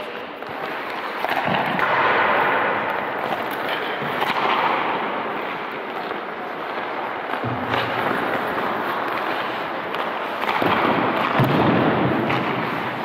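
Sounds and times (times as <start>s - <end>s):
sharp knocks of pucks or sticks: 0.0s - 13.0s
skates scraping across ice: 0.0s - 13.0s.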